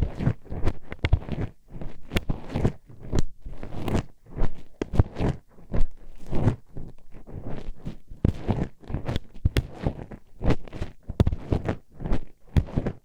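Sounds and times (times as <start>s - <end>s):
hairpin scraping on microphone: 0.0s - 13.0s.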